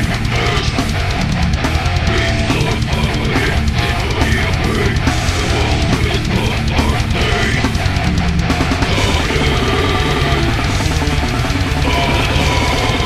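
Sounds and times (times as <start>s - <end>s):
distorted guitars and bass: 0.0s - 13.0s
rapid heavy drumming: 0.0s - 13.0s.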